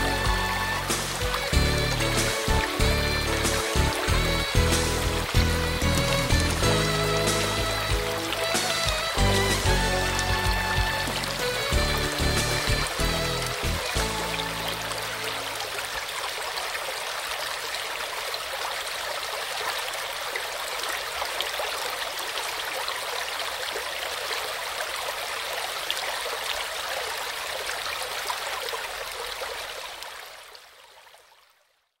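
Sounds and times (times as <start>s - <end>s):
waterfall and river rushing: 0.0s - 30.6s.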